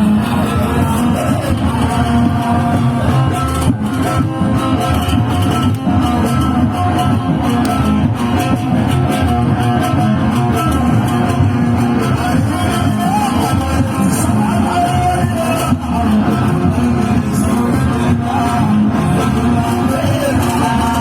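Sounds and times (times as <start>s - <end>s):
live instrumental band music: 0.0s - 21.0s.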